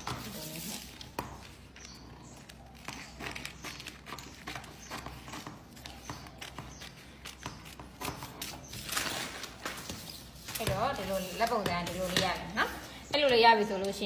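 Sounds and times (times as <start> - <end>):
scissors snipping paper: 0.0 - 12.4
paper rustling: 0.0 - 12.7.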